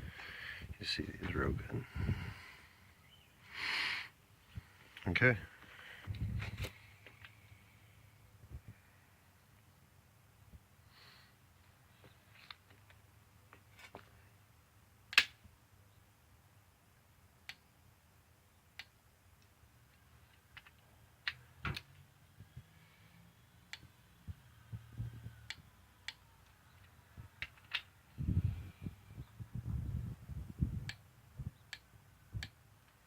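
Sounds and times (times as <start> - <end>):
faint low hum: 4.2 - 33.0.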